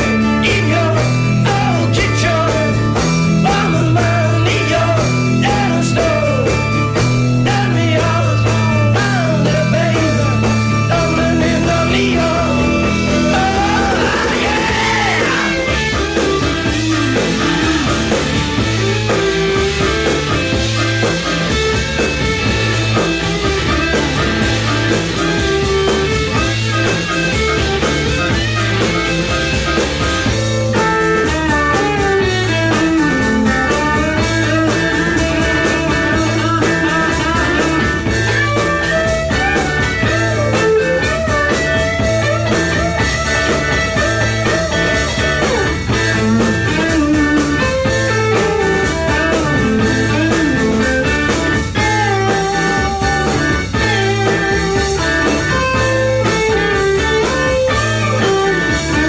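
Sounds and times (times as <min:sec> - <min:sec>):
rock music with electric guitar: 0:00.0 - 0:59.0.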